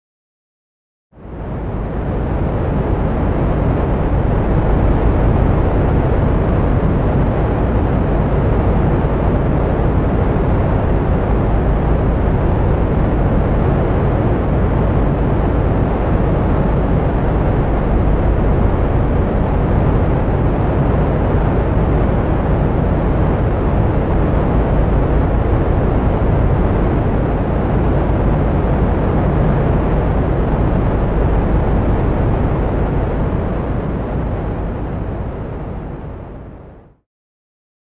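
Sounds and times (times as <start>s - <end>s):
dense low outdoor rumble: 1.2s - 37.0s.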